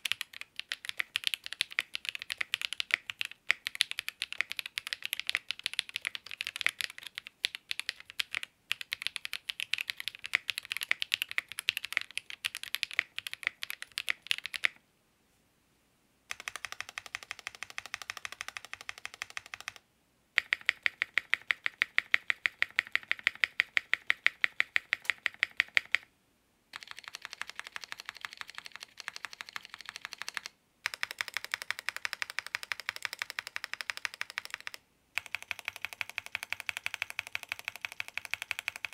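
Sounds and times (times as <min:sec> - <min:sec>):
mechanical keyboard typing: 0:00.0 - 0:14.8, 0:16.3 - 0:19.8, 0:20.4 - 0:26.1, 0:26.8 - 0:38.9.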